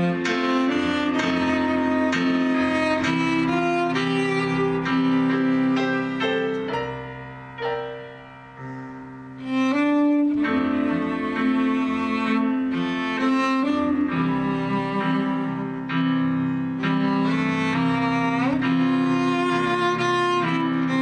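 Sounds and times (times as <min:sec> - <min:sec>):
bowed cello: 0:00.0 - 0:21.0
piano chords: 0:00.0 - 0:21.0.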